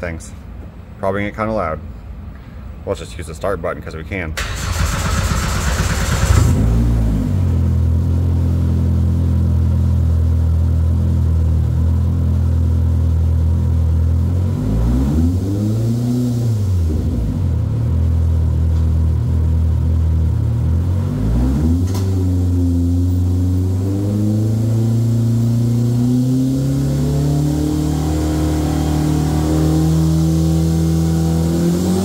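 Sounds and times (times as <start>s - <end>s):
engine idling and revving: 4.4s - 32.0s.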